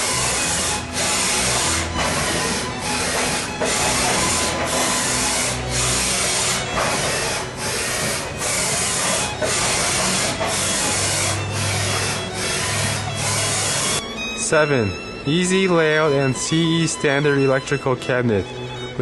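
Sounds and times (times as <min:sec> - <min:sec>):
machining center hissing: 0:00.0 - 0:19.0.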